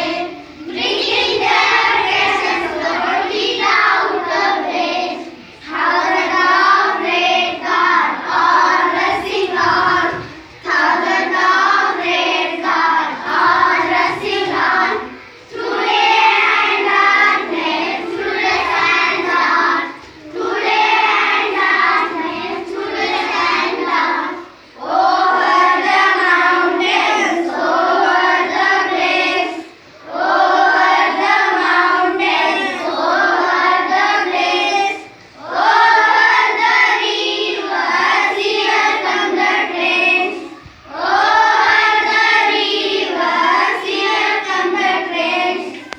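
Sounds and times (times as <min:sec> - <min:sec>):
children singing in unison: 0:00.0 - 0:45.9.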